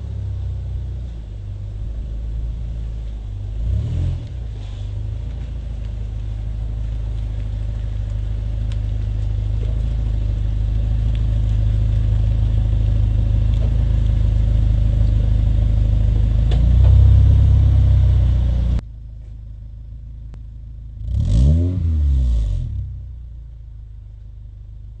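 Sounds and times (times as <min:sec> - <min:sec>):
car exhaust drone: 0:00.0 - 0:25.0.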